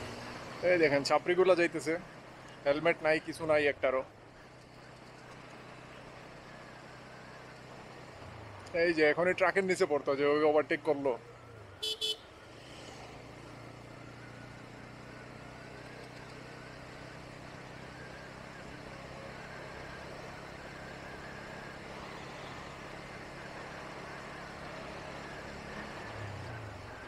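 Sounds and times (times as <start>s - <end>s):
motorcycle engine humming: 0.0s - 27.0s.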